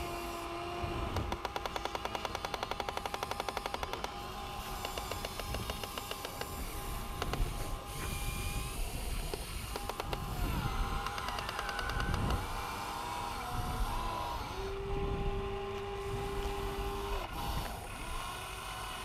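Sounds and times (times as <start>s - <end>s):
motor whine: 0.0s - 19.0s
rapid mechanical clicking: 0.0s - 19.0s
toy excavator motors and gears: 0.0s - 19.0s.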